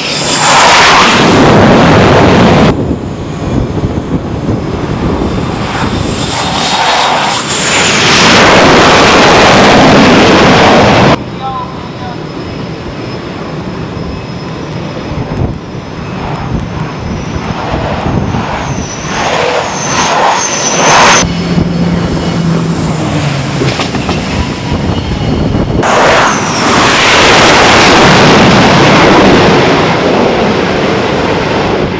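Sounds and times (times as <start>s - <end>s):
jet engine roar: 0.0s - 31.9s
jet engines high whine: 0.0s - 31.9s.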